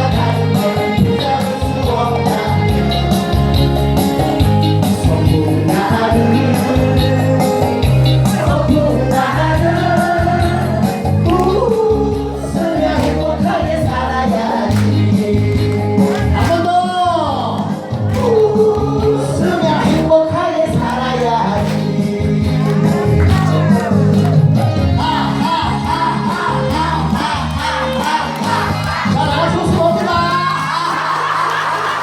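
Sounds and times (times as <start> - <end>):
steady bass beat: 0.0 - 30.6
upbeat song with singing: 0.0 - 32.0.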